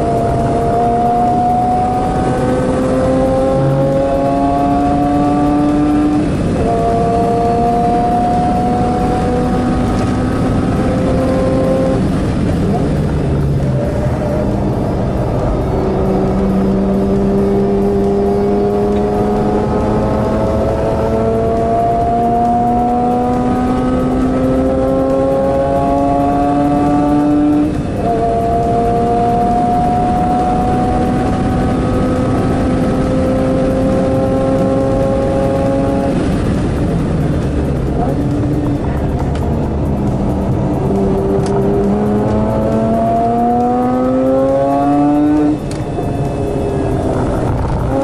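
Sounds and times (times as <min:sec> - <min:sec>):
rotary engine accelerating: 0:00.0 - 0:48.0.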